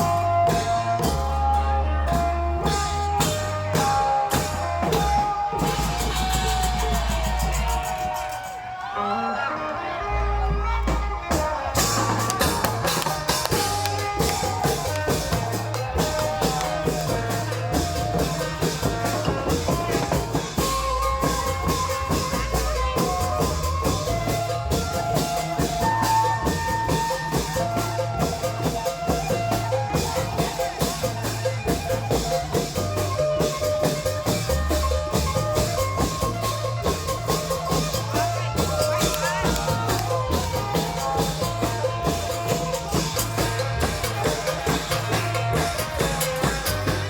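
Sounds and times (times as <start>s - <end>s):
deep drum beat: 0.0s - 8.4s, 10.5s - 47.0s.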